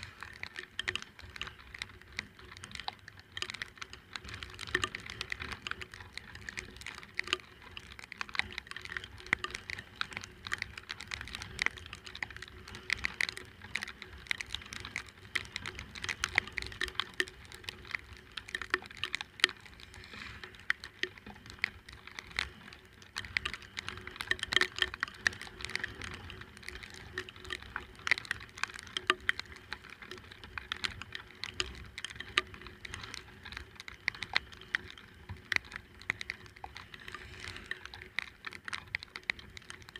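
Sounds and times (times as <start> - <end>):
rain crackling close to microphone: 0.0 - 39.9.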